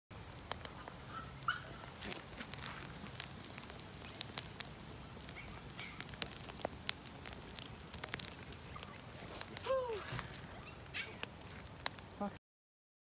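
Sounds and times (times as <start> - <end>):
sharp snaps of fire: 0.1 - 12.4
wood fire crackling: 0.1 - 12.4.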